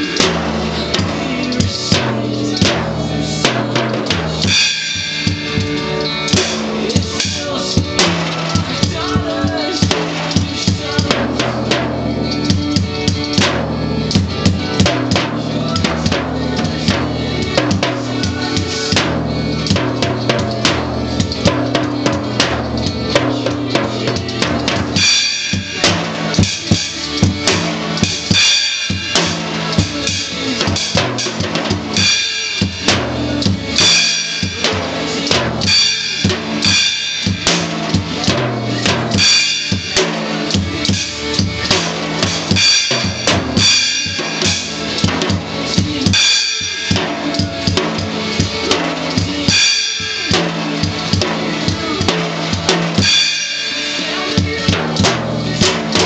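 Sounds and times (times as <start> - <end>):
child playing drum kit: 0.0 - 56.0
recorded pop-rock song: 0.0 - 56.0.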